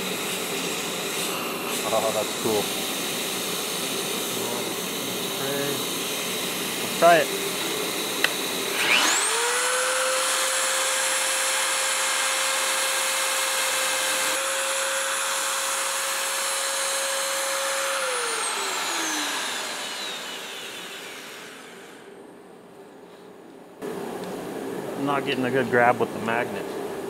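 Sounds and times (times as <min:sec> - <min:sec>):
drill motor whining: 0:00.0 - 0:22.1.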